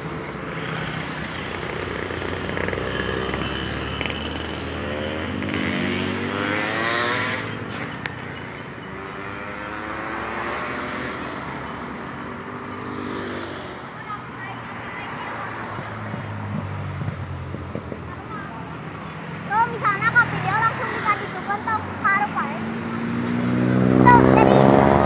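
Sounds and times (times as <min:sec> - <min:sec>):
vehicle engine passing close: 0:00.0 - 0:14.3, 0:15.1 - 0:25.0
road traffic: 0:00.0 - 0:25.0.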